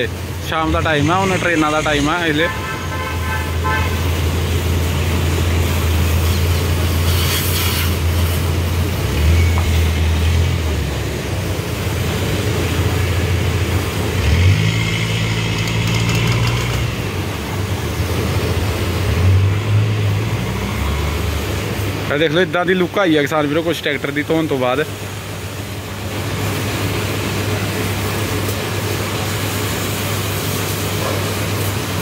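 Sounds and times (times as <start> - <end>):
engine droning: 0.0 - 32.0
water spraying from hose: 0.0 - 32.0.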